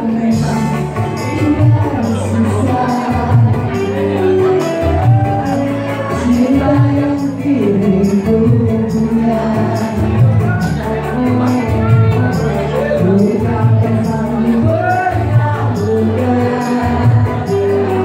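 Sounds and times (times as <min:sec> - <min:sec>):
electronic keyboard dance music: 0:00.0 - 0:18.0
person singing: 0:00.0 - 0:18.0.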